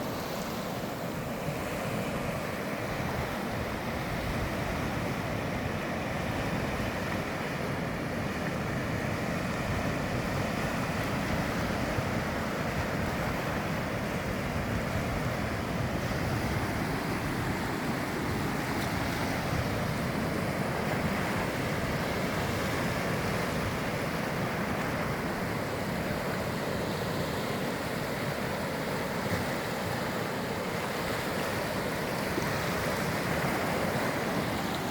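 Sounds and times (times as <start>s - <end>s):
ocean waves on shore: 0.0s - 34.9s.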